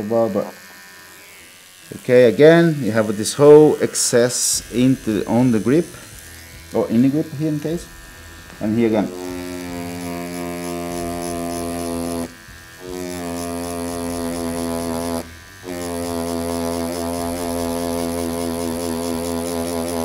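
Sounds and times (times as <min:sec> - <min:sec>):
tattoo machine buzzing: 0:00.0 - 0:20.0.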